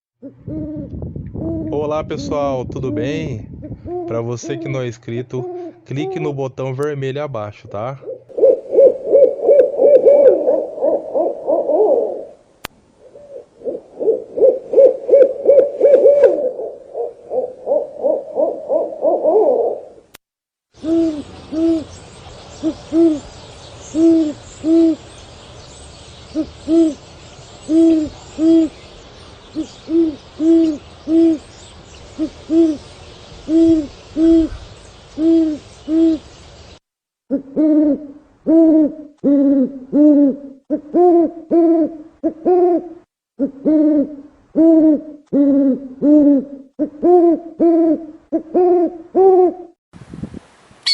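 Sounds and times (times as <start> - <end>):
faint background hiss: 0.2 - 20.2, 20.8 - 50.9
owl hooting: 3.9 - 6.4, 7.7 - 12.4, 13.0 - 20.0, 20.8 - 49.7.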